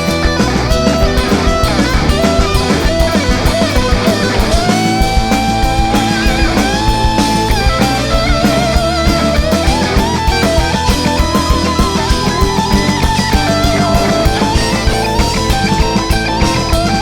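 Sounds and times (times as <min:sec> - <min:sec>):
bass: 0:00.0 - 0:17.0
electric guitar bending notes: 0:00.0 - 0:17.0
steady drum beat: 0:00.0 - 0:17.0.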